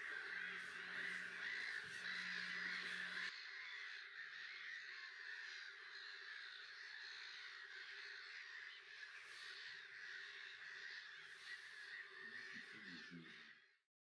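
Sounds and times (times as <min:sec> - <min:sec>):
distant chorus of birds: 0:00.0 - 0:13.9.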